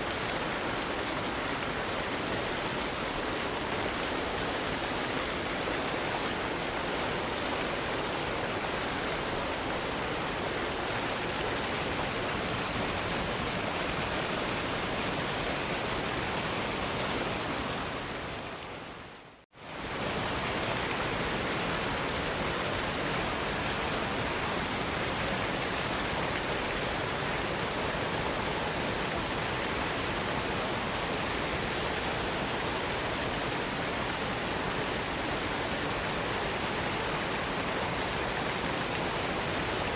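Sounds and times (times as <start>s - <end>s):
waterfall: 0.0s - 39.9s.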